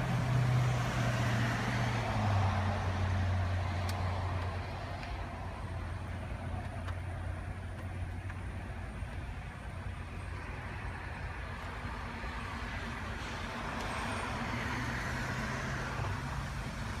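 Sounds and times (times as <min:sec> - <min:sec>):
motor vehicle engine running: 0:00.0 - 0:14.3.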